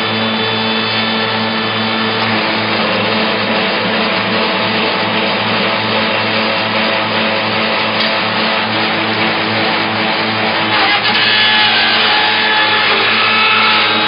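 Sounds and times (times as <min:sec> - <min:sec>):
machine cutting wood: 0:00.0 - 0:14.0
motor hum: 0:00.0 - 0:14.0.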